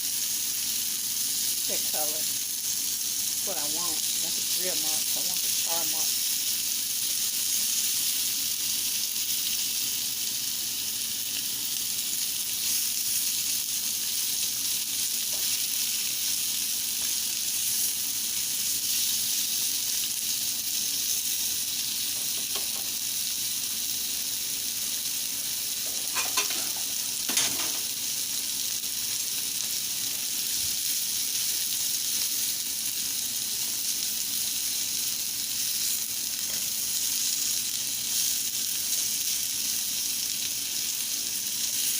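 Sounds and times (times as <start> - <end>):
chicken sizzling over high heat: 0.0 - 41.9.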